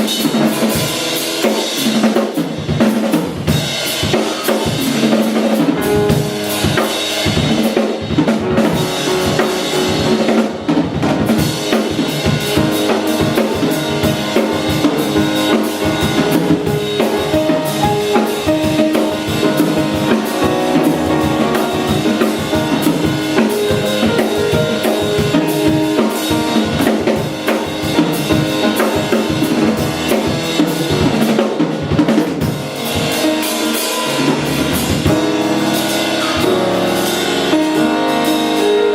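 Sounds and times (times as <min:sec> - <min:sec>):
drum kit beat: 0:00.0 - 0:38.9
live instrumental band: 0:00.0 - 0:38.9.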